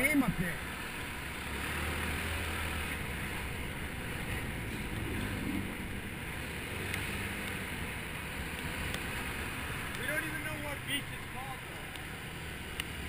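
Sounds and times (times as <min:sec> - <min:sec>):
road noise: 0:00.0 - 0:13.0
scooter engine hum: 0:00.0 - 0:13.0.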